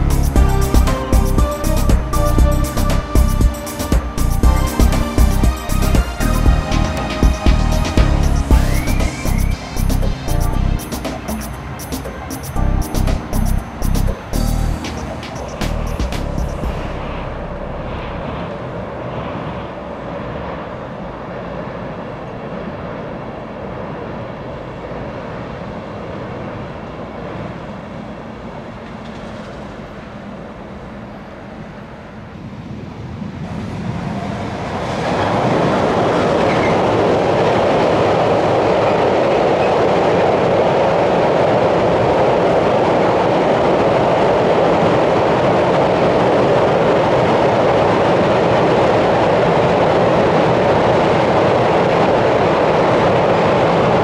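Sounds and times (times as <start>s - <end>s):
distant passenger train running: 0.0s - 54.0s
freight train crossing bridge: 0.0s - 54.0s.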